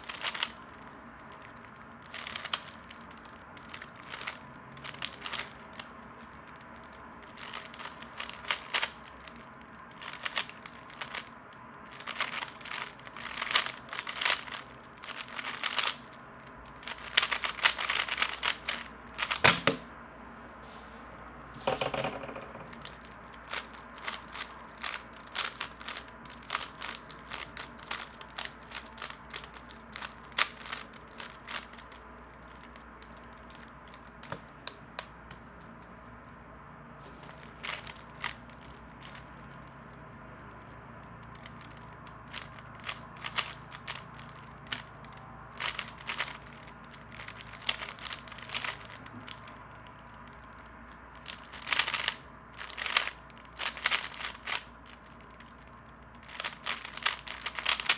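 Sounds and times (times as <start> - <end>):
plastic puzzle cube layers clacking: 0.0 - 19.8, 21.6 - 35.8, 37.3 - 39.8, 41.3 - 57.9.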